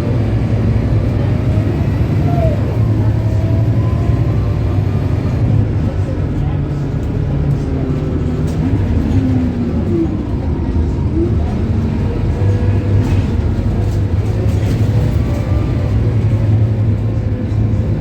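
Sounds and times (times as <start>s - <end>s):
diesel bus engine humming: 0.0s - 18.0s.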